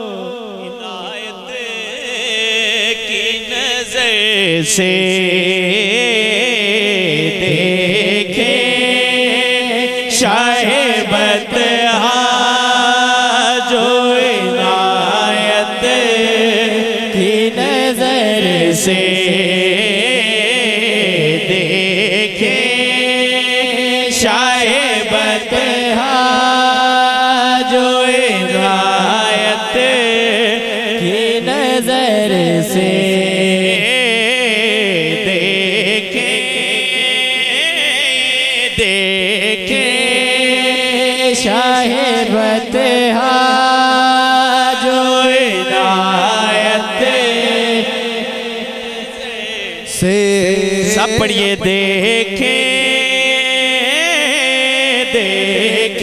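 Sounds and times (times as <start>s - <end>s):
man singing through loudspeaker: 0.0s - 56.0s.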